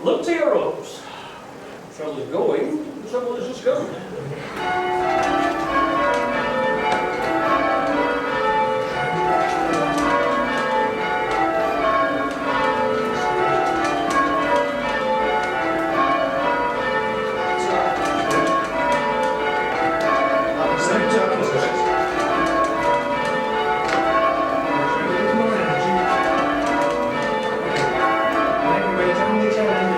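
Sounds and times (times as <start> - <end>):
church bells change ringing: 4.4 - 29.9.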